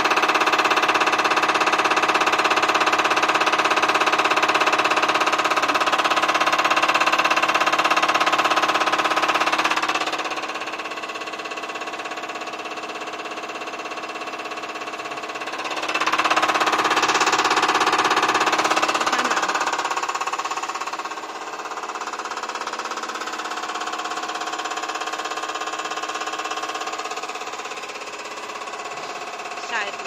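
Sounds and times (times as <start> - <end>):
injector test bench drone: 0.0 - 30.0.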